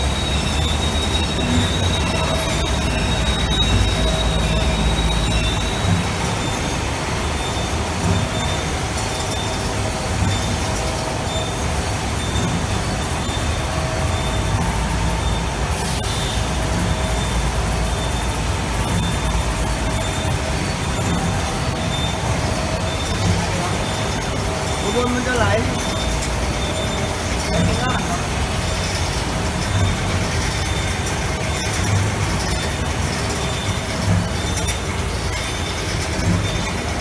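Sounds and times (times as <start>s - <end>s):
machine rollers rumbling: 0.0s - 37.0s.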